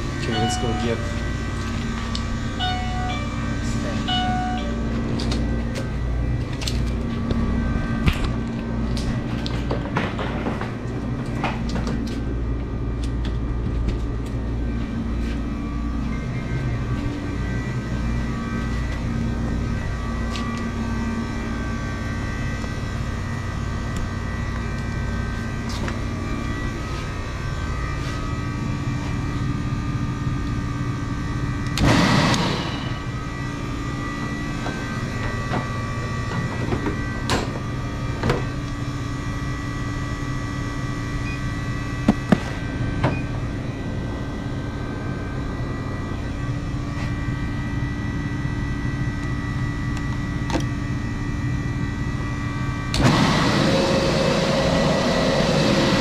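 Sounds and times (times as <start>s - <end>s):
refrigeration machinery humming: 0.0s - 56.0s.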